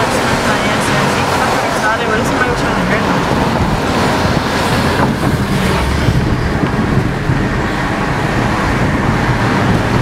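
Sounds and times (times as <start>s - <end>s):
tyres and engine rumble: 0.0s - 10.0s
wind noise: 0.0s - 10.0s.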